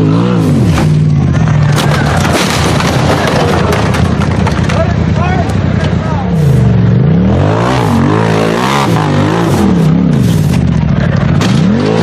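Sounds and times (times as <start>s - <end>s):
off-road vehicle engine revving: 0.0s - 3.1s, 4.0s - 12.0s.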